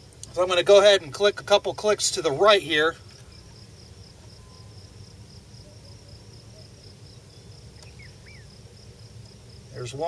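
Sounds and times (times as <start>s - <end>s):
insect chirping trill: 0.0s - 10.0s
low outdoor rumble: 0.0s - 10.0s.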